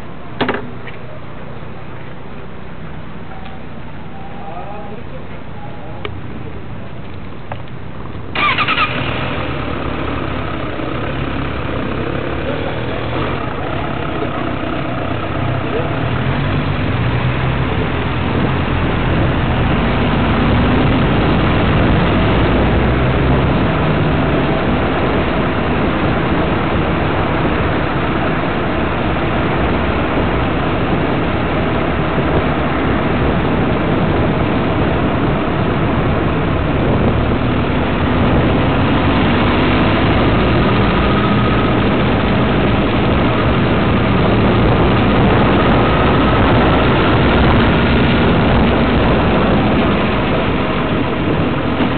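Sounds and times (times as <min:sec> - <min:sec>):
car engine: 0:00.0 - 0:51.9
road noise: 0:00.0 - 0:51.9.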